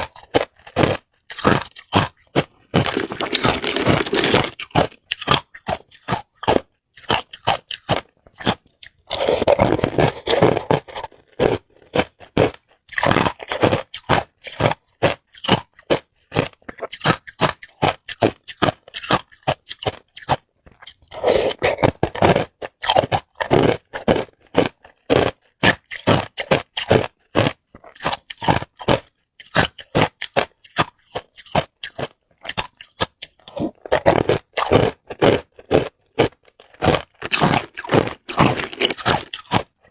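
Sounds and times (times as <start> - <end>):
person crunching ice cubes: 0.0 - 39.9.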